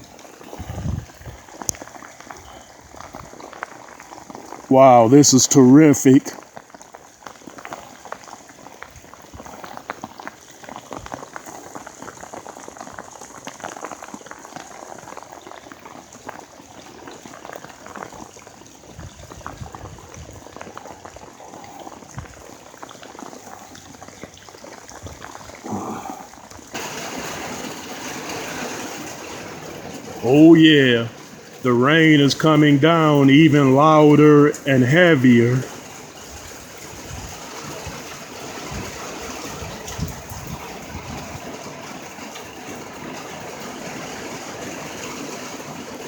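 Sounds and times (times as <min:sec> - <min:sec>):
heavy rain splashing on pavement: 0:00.0 - 0:46.0.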